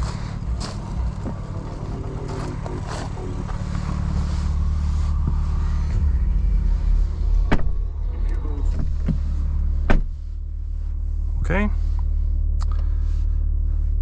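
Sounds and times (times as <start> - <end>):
car engine idling hum: 0.0 - 14.0.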